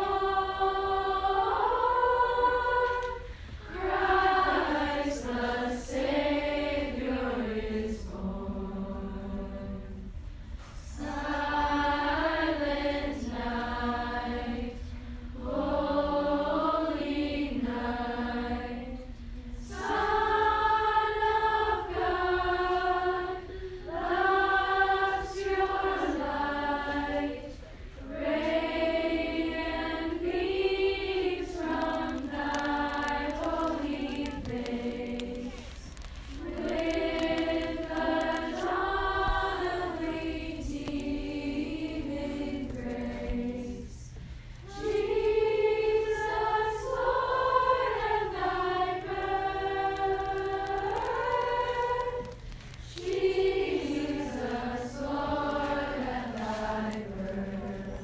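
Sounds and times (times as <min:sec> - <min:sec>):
young voices singing together: 0:00.0 - 0:58.0.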